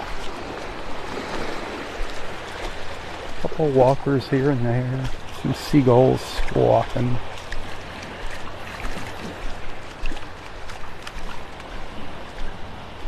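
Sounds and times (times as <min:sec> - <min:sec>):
gentle waves lapping: 0:00.0 - 0:13.0.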